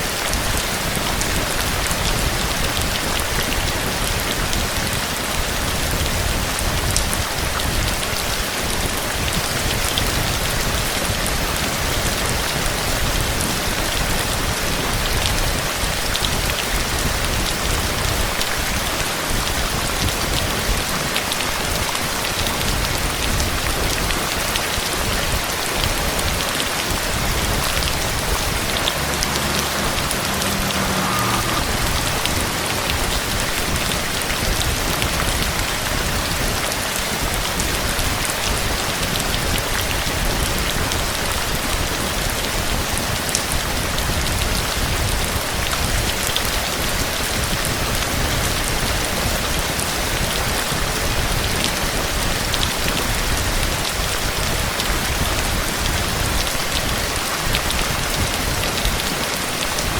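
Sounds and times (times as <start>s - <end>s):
heavy rain pattering: 0.0s - 59.9s.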